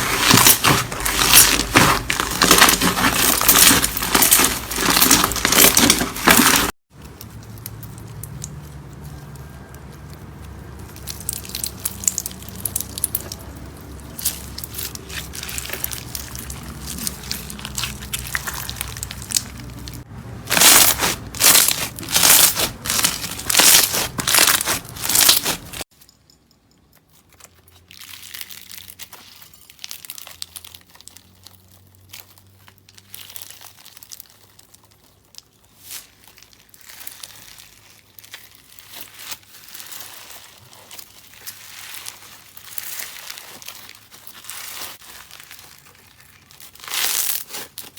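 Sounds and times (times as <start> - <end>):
slime crinkling and crackling: 0.0 - 25.9, 27.2 - 47.9
slime squishing: 0.0 - 25.9, 27.4 - 47.9.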